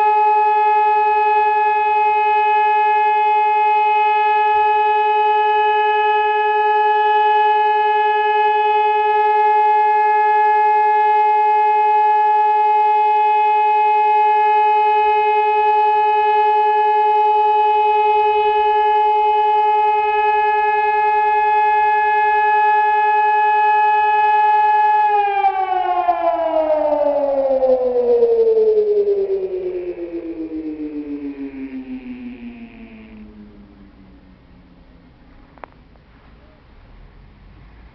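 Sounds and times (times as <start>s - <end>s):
electronic siren steady tone: 0.0s - 37.4s.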